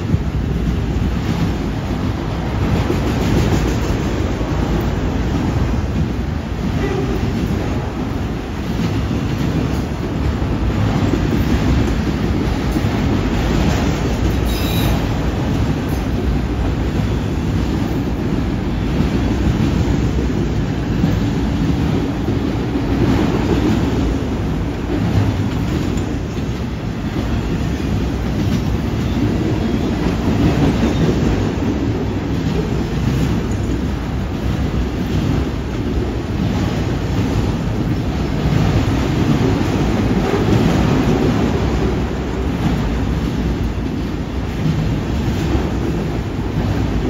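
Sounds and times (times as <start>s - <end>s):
train wheels on rails: 0.0s - 47.0s.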